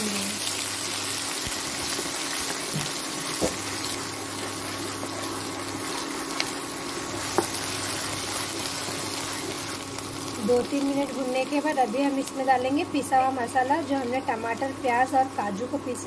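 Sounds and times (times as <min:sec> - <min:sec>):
spices sizzling in hot oil: 0:00.0 - 0:16.0.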